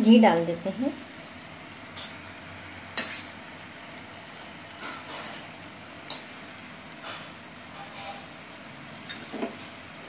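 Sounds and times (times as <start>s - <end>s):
syrup simmering hiss: 0.0s - 10.0s.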